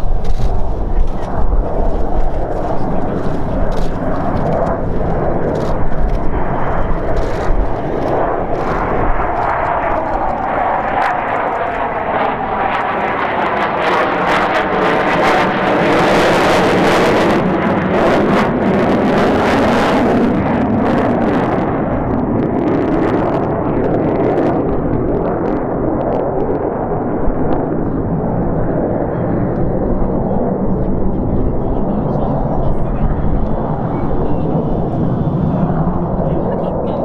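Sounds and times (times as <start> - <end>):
loud jet engine noise: 0.0 - 37.0.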